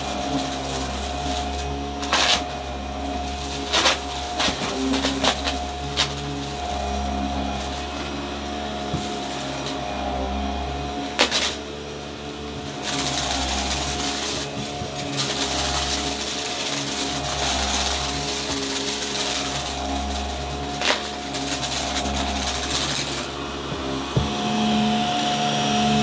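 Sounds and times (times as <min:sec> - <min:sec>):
upright vacuum cleaner running: 0:00.0 - 0:26.0.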